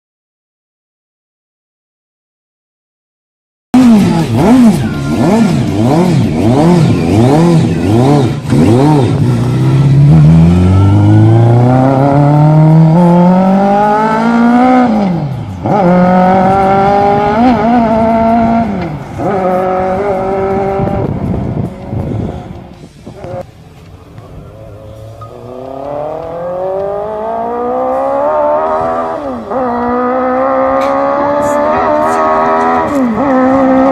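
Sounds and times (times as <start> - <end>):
motorcycle engine revving: 3.8 - 23.4, 24.5 - 33.9.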